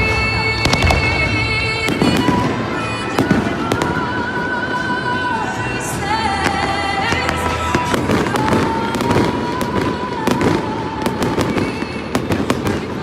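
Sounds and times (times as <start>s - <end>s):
fireworks cracks and bangs: 0.0s - 5.5s, 6.3s - 13.0s.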